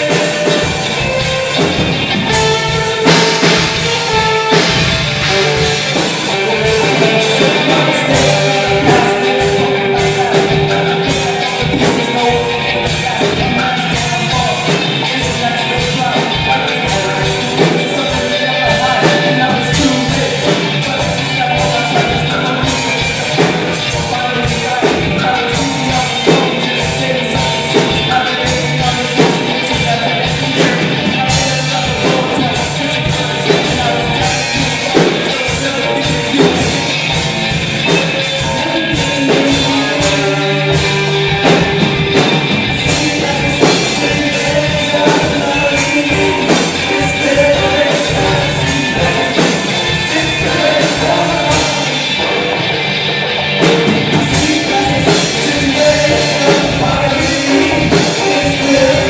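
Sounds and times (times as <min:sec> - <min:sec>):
drum kit beat: 0:00.0 - 0:59.0
electric guitars: 0:00.0 - 0:59.0.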